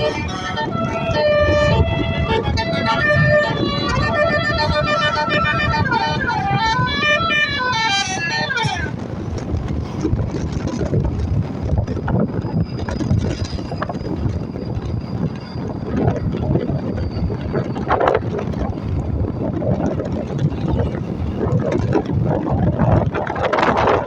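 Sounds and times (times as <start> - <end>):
passing traffic rumble: 0.0 - 24.0
wind buffeting microphone: 0.0 - 24.0.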